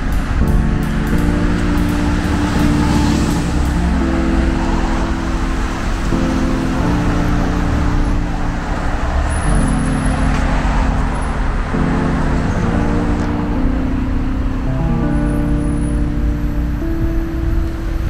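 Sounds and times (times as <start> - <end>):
cars driving past: 0.0 - 18.0
low music chords: 0.0 - 18.0.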